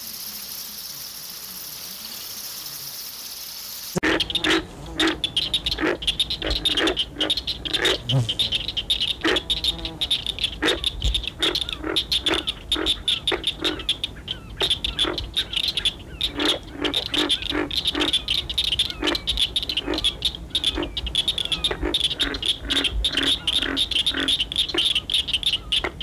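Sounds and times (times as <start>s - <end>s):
frogs croaking: 0.0s - 26.0s
high-pitched frog chorus: 0.0s - 26.0s.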